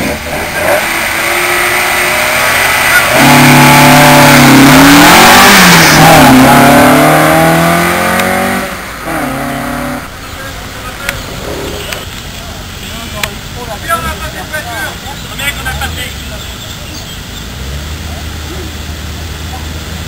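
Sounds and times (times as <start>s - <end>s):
car engine revving and accelerating: 0.0s - 11.9s, 15.3s - 20.0s.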